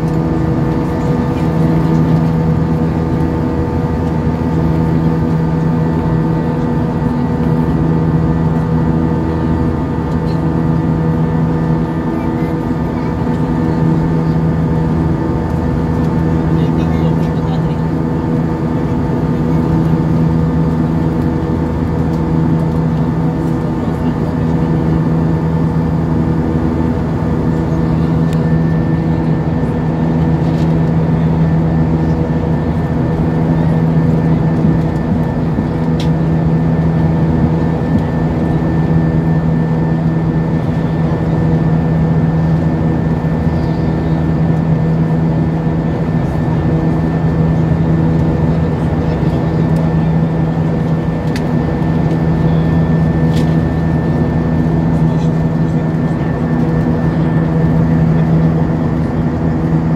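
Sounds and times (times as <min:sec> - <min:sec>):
airplane cabin hum: 0:00.0 - 0:59.9.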